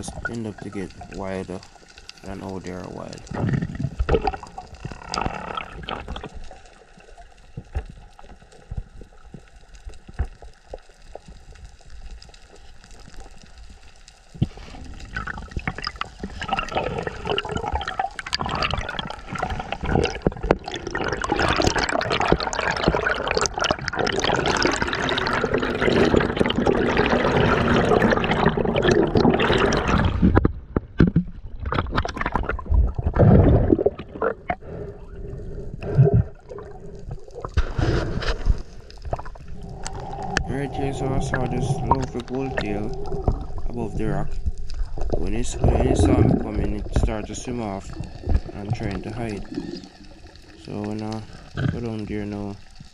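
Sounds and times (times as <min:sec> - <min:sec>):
water sloshing and bubbling: 0:00.0 - 0:52.9.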